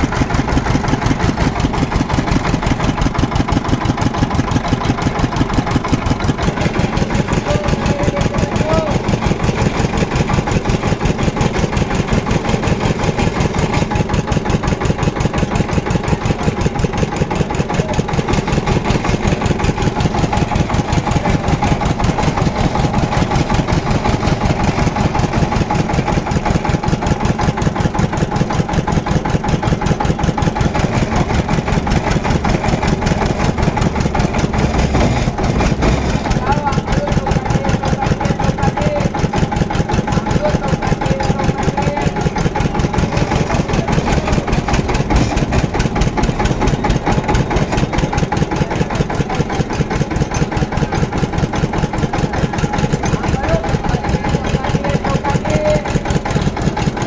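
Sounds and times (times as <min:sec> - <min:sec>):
juice crusher engine chugging: 0:00.0 - 0:57.0.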